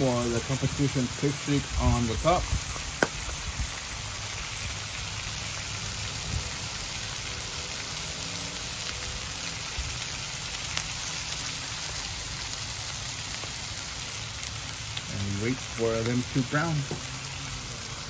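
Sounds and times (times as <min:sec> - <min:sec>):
bacon sizzling on a griddle: 0:00.0 - 0:18.0.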